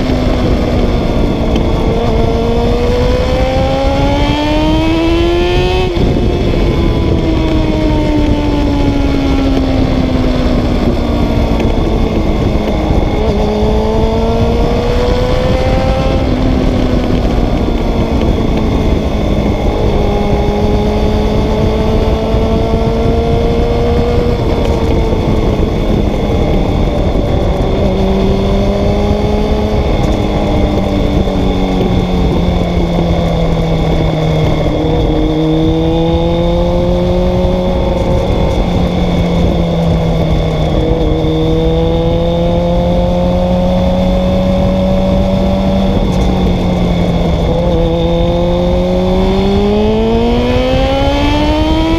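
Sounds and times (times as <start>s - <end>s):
motorcycle engine running: 0.0s - 51.9s
wind rushing: 0.0s - 51.9s.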